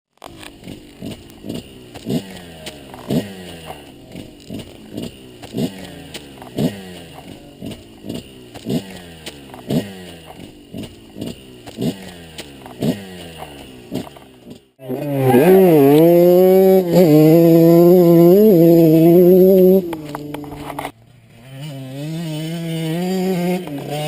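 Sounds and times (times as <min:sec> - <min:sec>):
two-stroke engine revving: 0:00.2 - 0:24.0.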